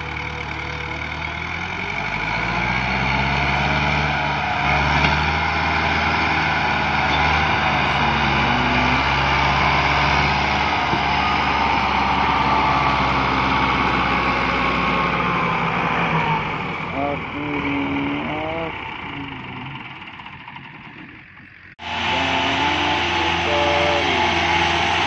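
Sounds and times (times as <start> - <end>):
tractor diesel engine working hard: 0.0 - 25.0.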